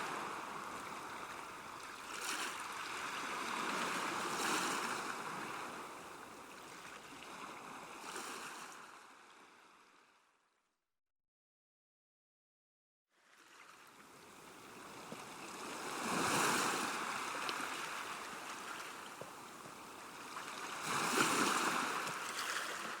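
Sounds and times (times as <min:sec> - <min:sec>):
small waves breaking on shore: 0:00.0 - 0:10.1, 0:13.2 - 0:23.0.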